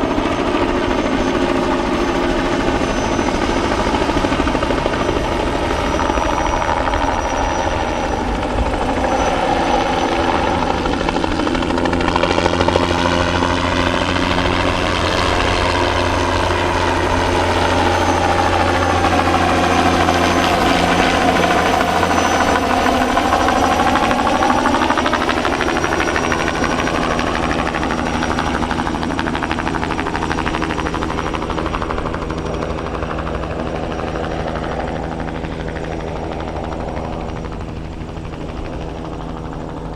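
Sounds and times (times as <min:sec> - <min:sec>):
helicopter flying past: 0:00.0 - 0:39.9.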